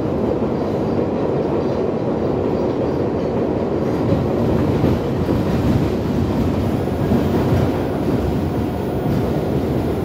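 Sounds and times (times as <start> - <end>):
subway train wheels on rail: 0.0 - 10.0.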